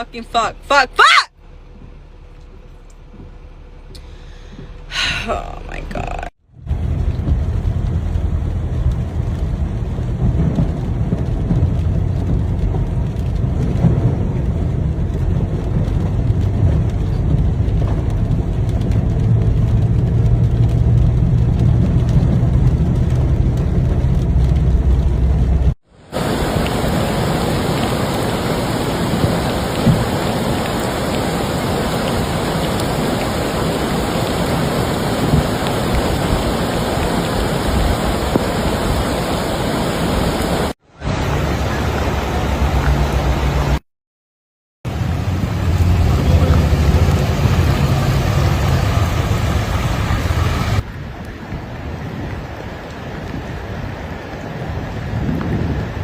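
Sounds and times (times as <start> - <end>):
rushing floodwater: 0.0 - 1.3, 4.5 - 43.8, 44.9 - 56.0
heavy rain: 3.4 - 43.8, 44.8 - 56.0.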